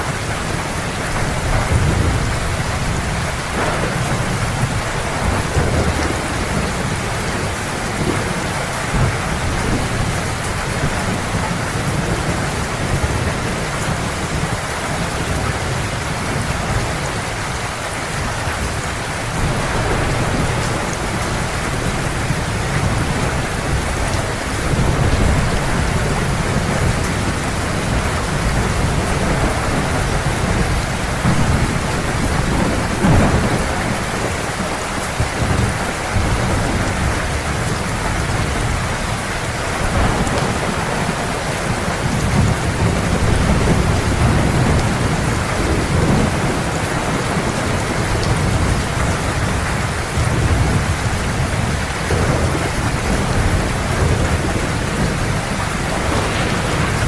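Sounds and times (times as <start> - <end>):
heavy rain falling: 0.0 - 57.0
low thunder rumbling: 0.0 - 57.0.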